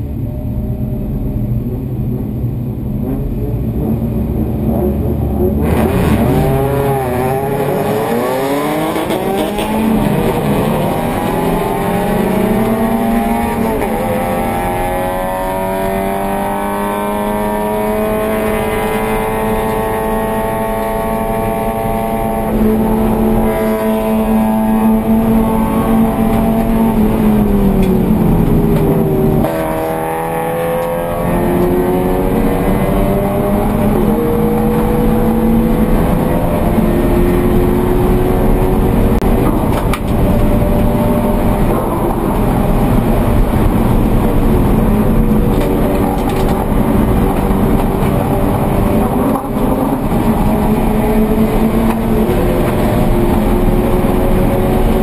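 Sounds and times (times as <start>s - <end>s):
race car engine accelerating: 1.7s - 55.0s.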